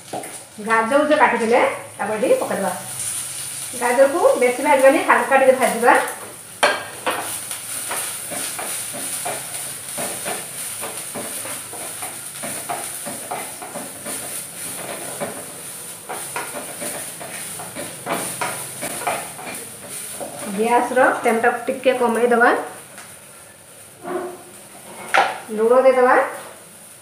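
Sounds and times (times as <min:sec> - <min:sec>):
carrots sizzling in oil: 0:00.0 - 0:27.0
wooden spatula scraping a wok: 0:02.2 - 0:22.3, 0:23.4 - 0:25.4.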